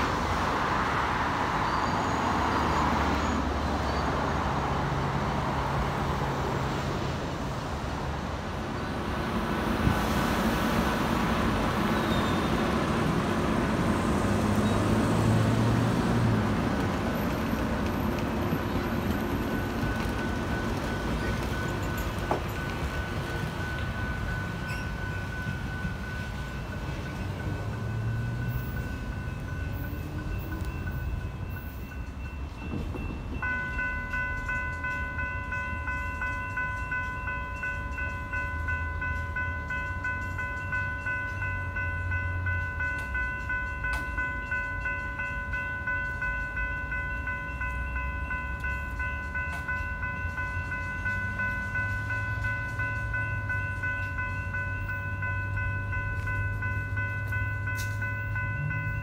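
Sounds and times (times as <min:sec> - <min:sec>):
approaching train rumble: 0:00.0 - 0:59.0
railroad crossing bells ringing: 0:00.0 - 0:59.0.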